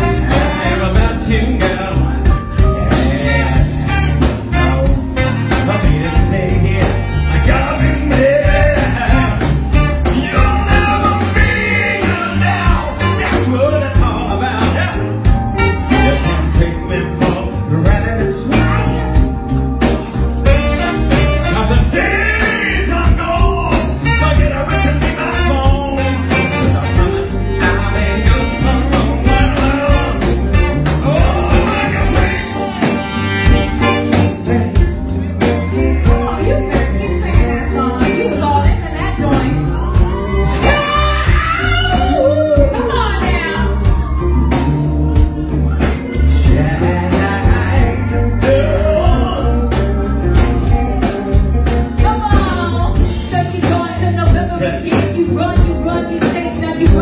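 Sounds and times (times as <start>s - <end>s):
live band playing: 0.0s - 57.0s
male lead singer: 0.0s - 57.0s.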